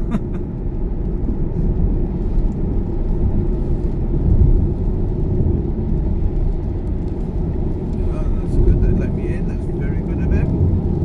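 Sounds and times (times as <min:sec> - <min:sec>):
road and tyre noise in a car: 0:00.0 - 0:11.0.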